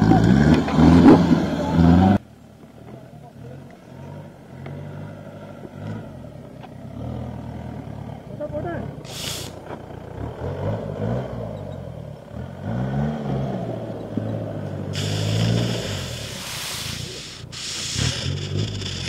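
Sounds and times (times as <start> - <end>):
jeep engine revving: 0.0 - 2.2, 3.3 - 19.0.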